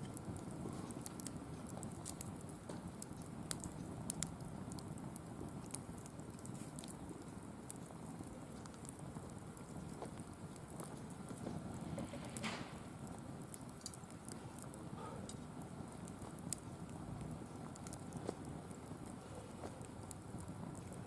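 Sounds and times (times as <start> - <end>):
firewood crackling and popping: 0.0 - 21.0.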